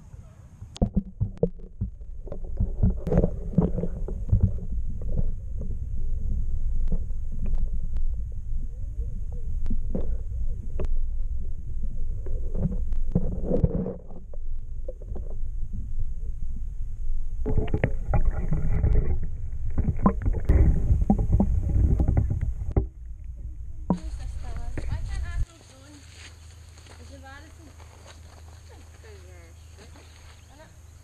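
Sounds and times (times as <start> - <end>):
muffled underwater rumble: 0.0 - 25.6.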